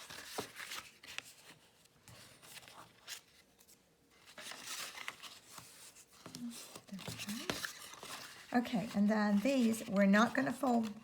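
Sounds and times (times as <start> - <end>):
cardstock rustling while folded: 0.0 - 11.0.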